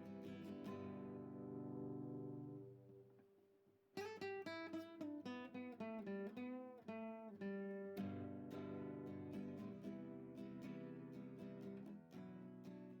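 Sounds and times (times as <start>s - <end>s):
acoustic guitar music: 0.0s - 3.2s, 4.0s - 13.0s.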